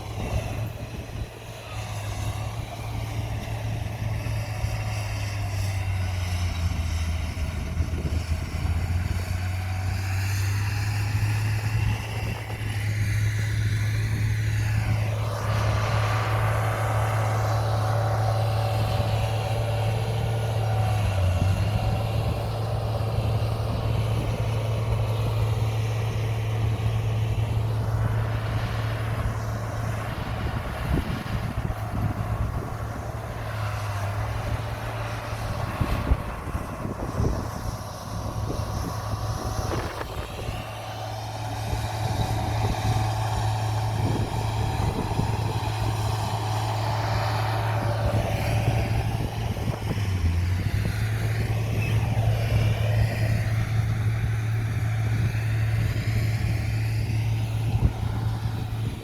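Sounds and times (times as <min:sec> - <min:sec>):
diesel machinery engine drone: 0:00.0 - 0:59.0.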